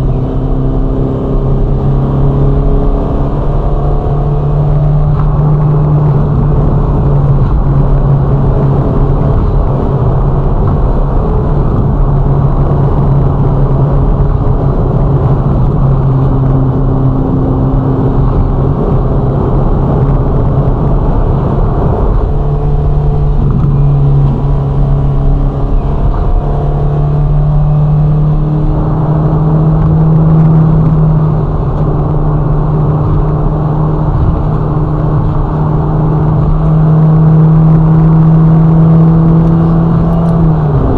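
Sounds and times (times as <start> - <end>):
car engine at cruising revs: 0.0 - 40.9.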